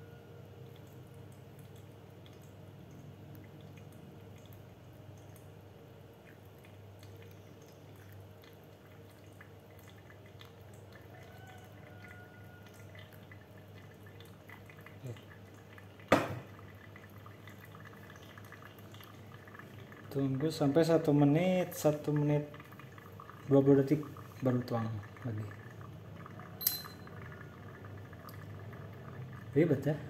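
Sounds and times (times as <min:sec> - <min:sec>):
low steady hum: 0:00.0 - 0:30.0
dripping ticks: 0:00.6 - 0:30.0
water trickling onto coffee grounds: 0:00.6 - 0:30.0.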